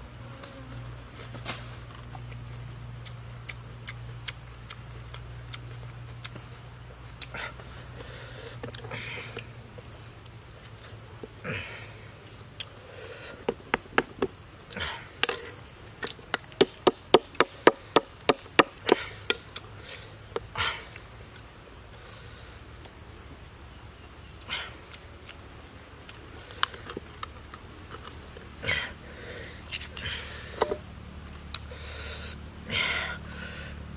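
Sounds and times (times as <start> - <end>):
insect buzz: 0.0 - 33.9.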